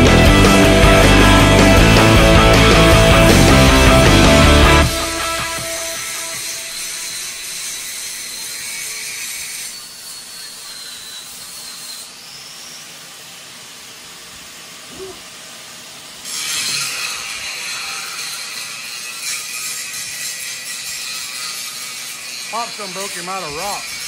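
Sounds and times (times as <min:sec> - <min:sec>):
angle grinders grinding steel: 0:00.0 - 0:13.5, 0:16.1 - 0:24.0.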